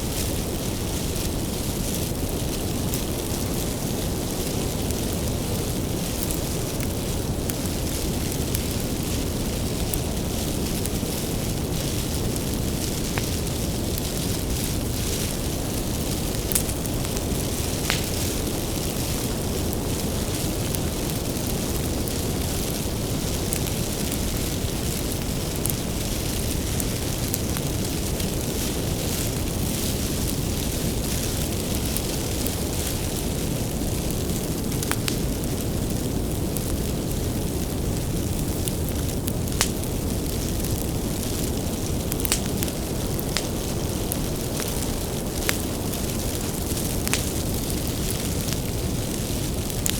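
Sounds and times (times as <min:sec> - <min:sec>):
bonfire burning with low rumble: 0:00.0 - 0:49.9
wood crackling and popping: 0:00.0 - 0:49.9.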